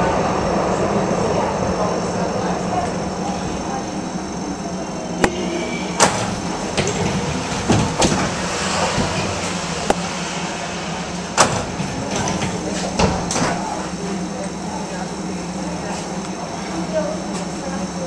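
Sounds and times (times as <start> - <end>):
light-rail car hum: 0.0 - 18.0.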